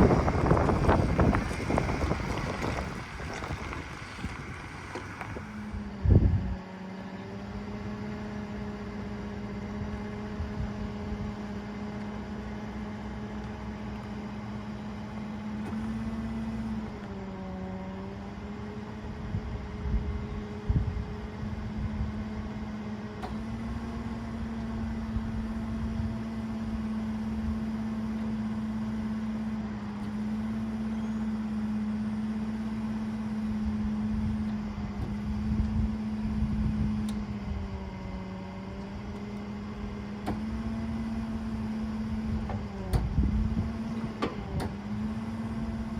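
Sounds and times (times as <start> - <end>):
truck engine humming whine: 0.0 - 45.9.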